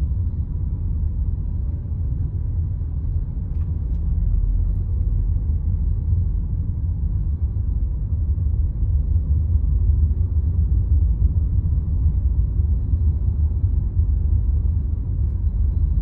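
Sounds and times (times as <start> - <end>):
car driving on paved road: 0.0 - 16.0.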